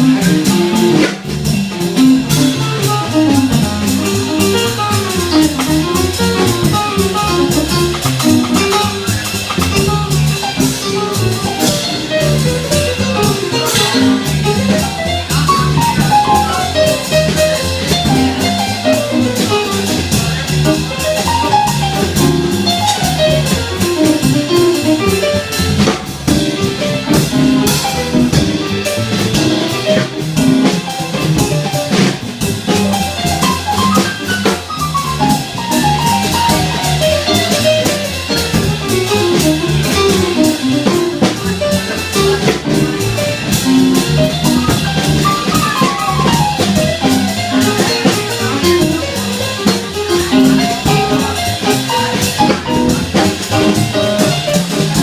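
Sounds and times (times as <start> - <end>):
drum kit cymbals and drums: 0.0 - 55.0
jazz quartet playing: 0.0 - 55.0.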